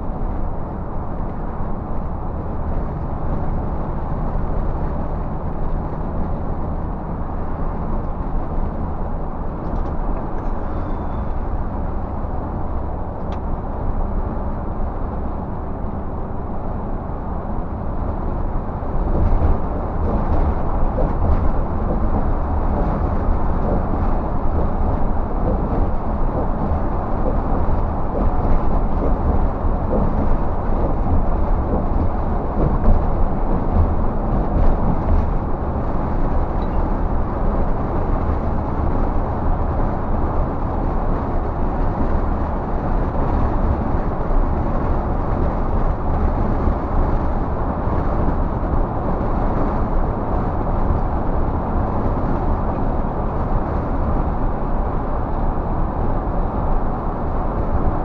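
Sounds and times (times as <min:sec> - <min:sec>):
low engine drone: 0:00.0 - 0:58.0
tyre and road noise: 0:00.0 - 0:58.0.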